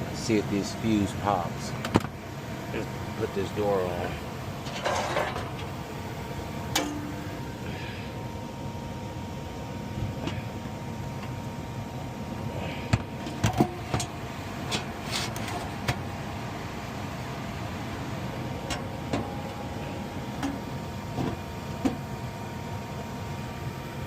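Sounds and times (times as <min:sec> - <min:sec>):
furnace humming: 0:00.0 - 0:24.0.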